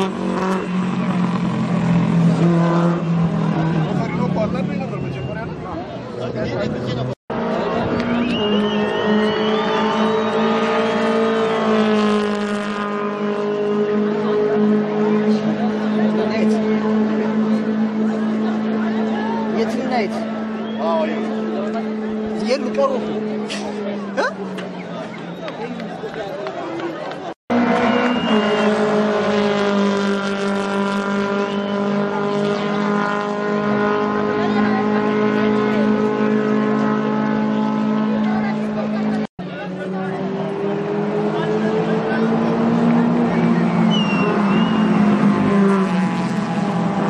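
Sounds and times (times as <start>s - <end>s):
racing car engine speeding past: 0.0s - 47.0s.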